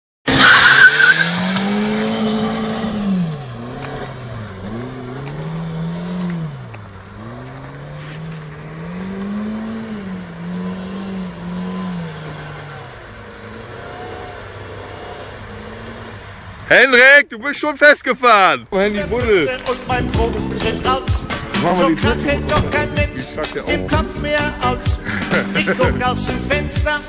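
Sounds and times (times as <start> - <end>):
car engine revving: 0.3 - 16.7, 18.7 - 27.0.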